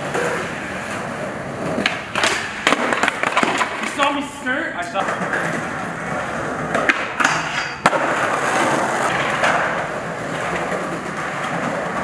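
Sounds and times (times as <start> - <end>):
skateboard sharp crack: 0.0 - 4.1, 5.0 - 12.0
skateboard clacks: 0.0 - 4.2, 4.9 - 12.0
skateboard wheels rolling on concrete: 0.0 - 12.0.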